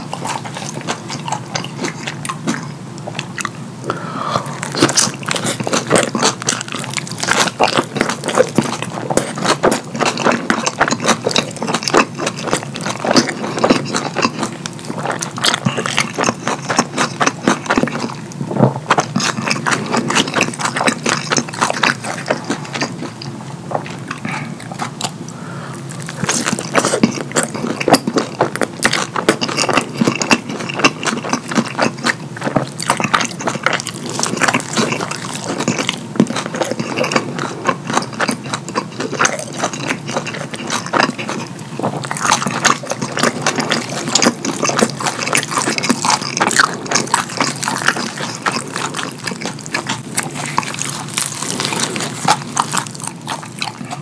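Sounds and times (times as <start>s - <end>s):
wet chewing and lip smacking: 0.0s - 54.0s.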